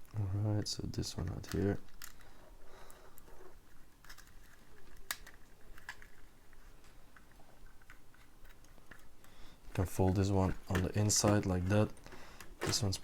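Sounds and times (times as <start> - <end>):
plastic pieces clicking: 0.6 - 13.0.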